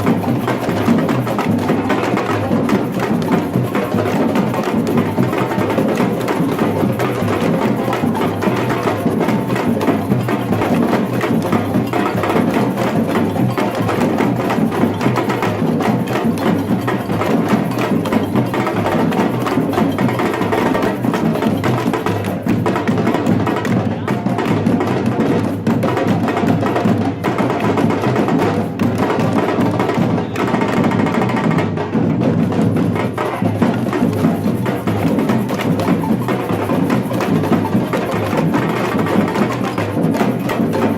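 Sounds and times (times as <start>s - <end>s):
samba drum group playing: 0.0s - 40.9s.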